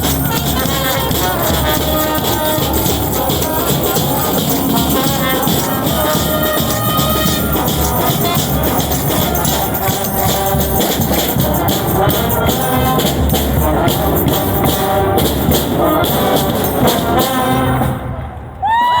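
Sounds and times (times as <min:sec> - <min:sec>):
drum and percussion beat: 0:00.0 - 0:17.9
brass band horns: 0:00.0 - 0:18.6.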